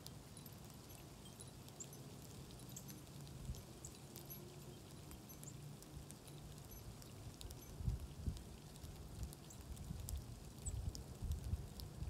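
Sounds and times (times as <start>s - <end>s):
small birds chirping: 0.0s - 7.8s, 8.4s - 11.0s
light ticking patter: 0.0s - 12.0s.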